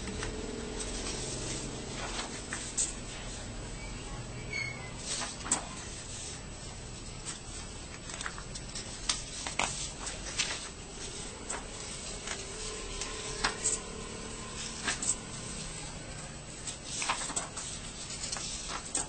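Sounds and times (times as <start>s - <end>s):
paper rustling and crackling: 0.0s - 3.6s, 4.9s - 19.0s.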